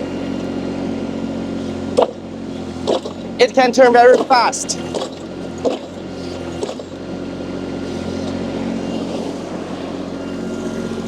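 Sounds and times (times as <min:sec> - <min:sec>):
loader engine running: 0:00.0 - 0:11.0
sweeper attachment spinning: 0:01.4 - 0:11.0.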